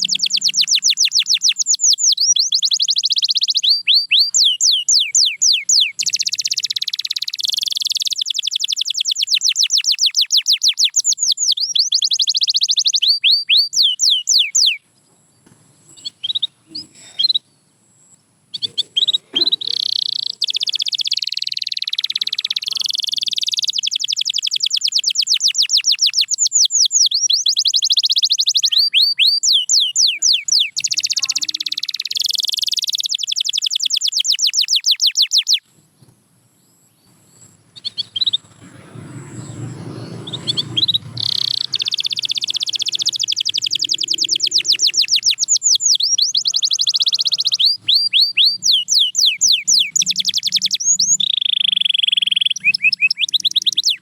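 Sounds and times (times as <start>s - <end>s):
canary singing trills: 0.0s - 35.7s, 36.7s - 54.0s.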